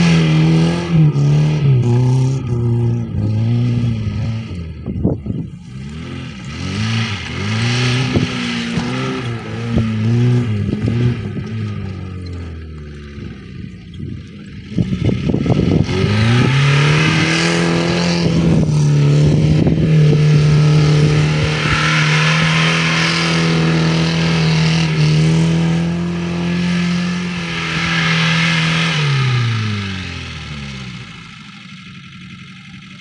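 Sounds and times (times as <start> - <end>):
car engine revving: 0.0 - 32.6
wheels spinning on grass: 5.0 - 33.0.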